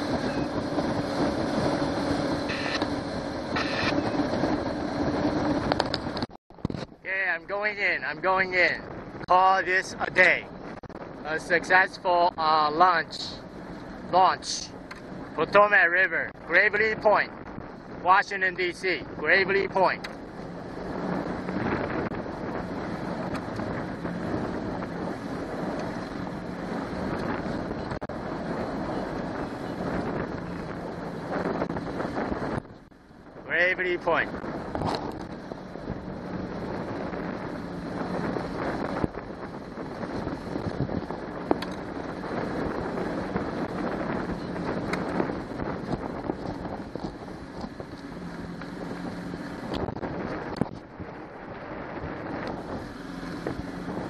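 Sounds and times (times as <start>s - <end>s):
outboard motor droning: 0.0s - 54.0s
wind buffeting microphone: 0.0s - 54.0s.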